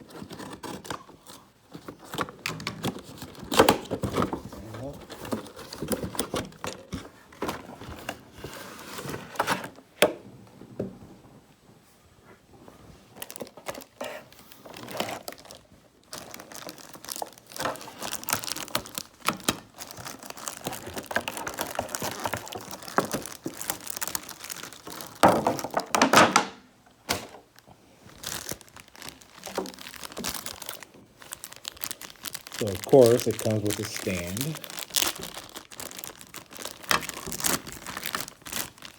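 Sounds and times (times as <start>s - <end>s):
plastic packaging crinkling: 0.0s - 9.8s, 13.1s - 26.0s, 27.2s - 38.9s.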